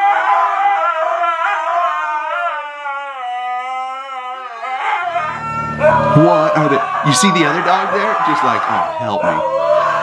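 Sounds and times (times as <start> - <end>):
huskies howling: 0.0 - 10.0.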